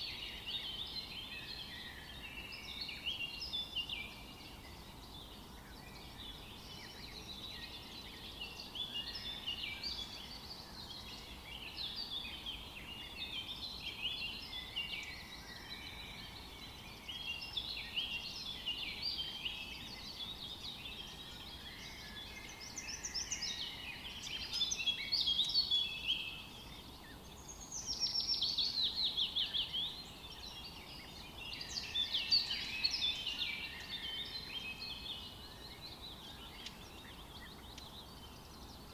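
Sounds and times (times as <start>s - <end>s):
faint steady hiss: 0.0s - 38.9s
songbirds singing: 0.0s - 38.9s.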